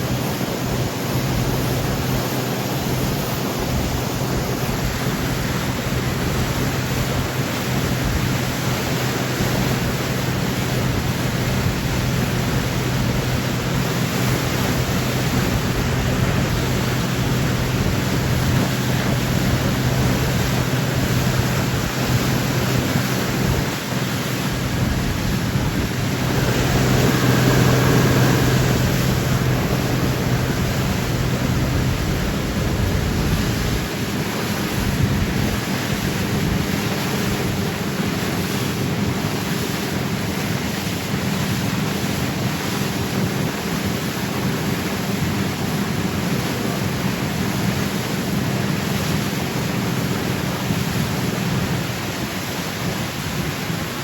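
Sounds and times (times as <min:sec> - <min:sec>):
boat engine hum: 0:00.0 - 0:54.0
wind and water rushing: 0:00.0 - 0:54.0.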